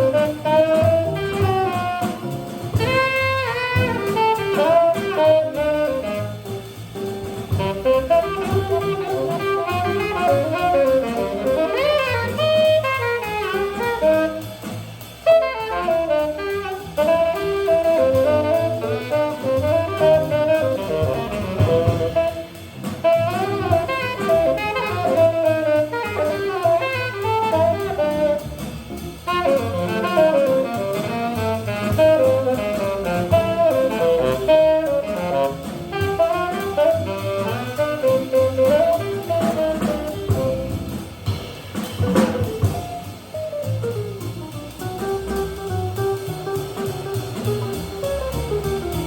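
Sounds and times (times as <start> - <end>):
tenor saxophone improvising: 0.0 - 6.7, 7.6 - 14.6, 15.2 - 43.8
drum kit: 0.0 - 49.0
walking bass: 0.0 - 49.0.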